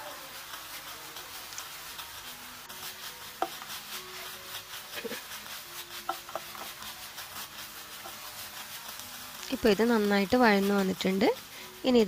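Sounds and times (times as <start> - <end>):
spatula scraping a frying pan: 0.0 - 12.0.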